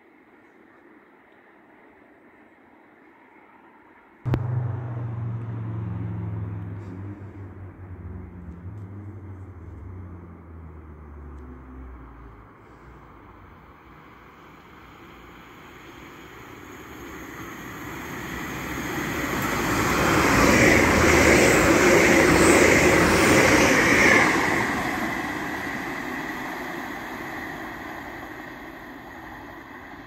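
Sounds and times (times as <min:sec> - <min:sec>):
train passing at speed: 0:04.3 - 0:30.0.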